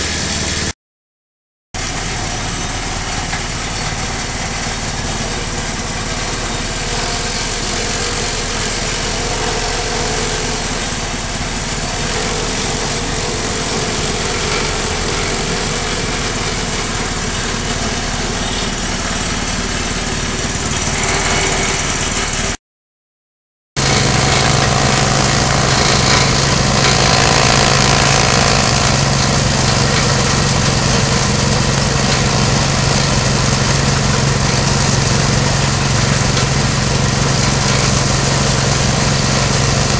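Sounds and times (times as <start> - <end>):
motorized grass chopper running: 0.0 - 0.7, 1.8 - 22.6, 23.8 - 39.9.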